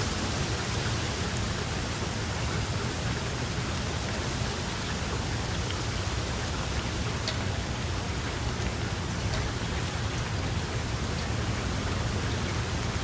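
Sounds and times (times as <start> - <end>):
raindrops ticking: 0.0 - 13.0
steady rain hiss: 0.0 - 13.0.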